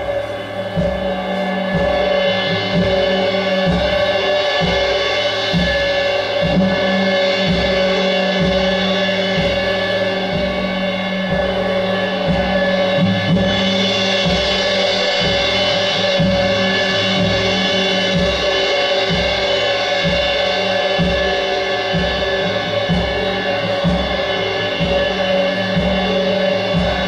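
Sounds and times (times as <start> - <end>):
cymbal wash: 0.0 - 27.0
low drum strikes: 0.0 - 27.0
sustained drone: 0.0 - 27.0.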